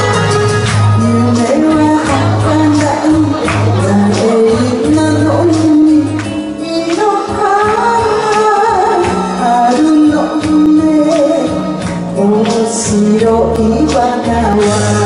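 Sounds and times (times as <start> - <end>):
instrumental accompaniment with beat: 0.0 - 15.0
woman singing into microphone: 0.7 - 15.0.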